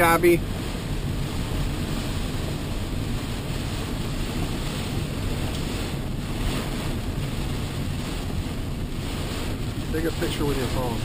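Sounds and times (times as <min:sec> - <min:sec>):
road noise: 0:00.0 - 0:11.0
storm wind against car: 0:00.0 - 0:11.0.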